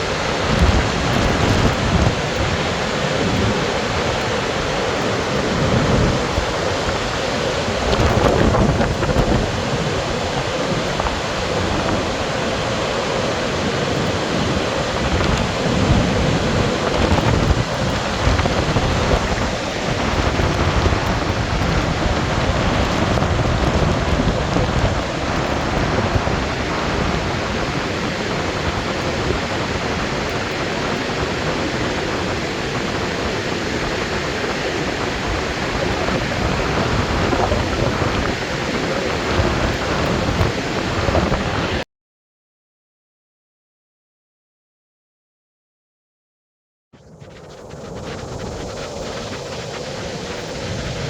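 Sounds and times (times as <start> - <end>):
heavy falling water rushing: 0.0 - 41.8.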